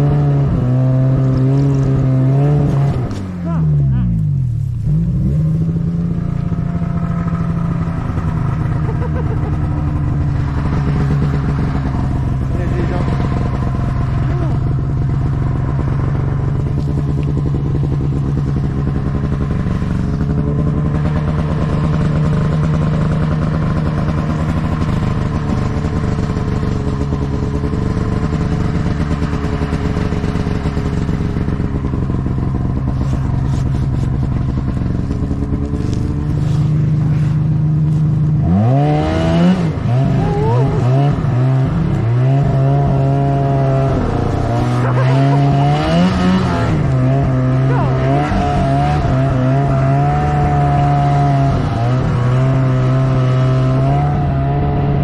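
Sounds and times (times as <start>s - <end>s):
snowmobile engine revving: 0.0s - 4.2s, 4.8s - 55.0s.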